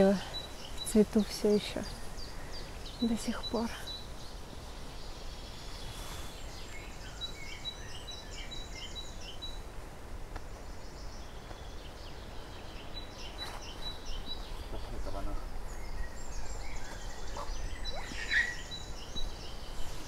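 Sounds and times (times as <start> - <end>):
birds singing: 0.0 - 20.0.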